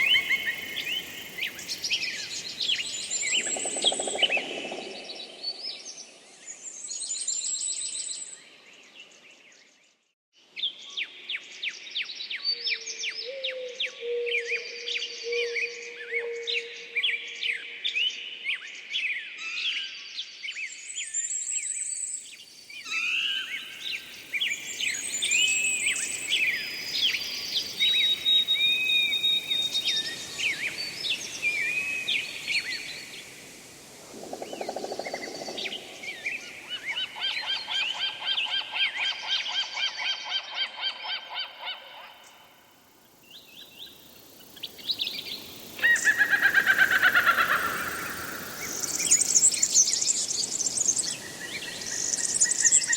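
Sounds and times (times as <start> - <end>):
wild birds singing: 0.0 - 9.9, 10.8 - 52.9.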